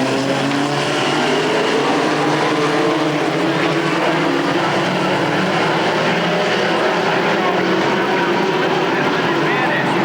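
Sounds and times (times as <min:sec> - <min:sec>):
race truck engines: 0:00.0 - 0:10.0.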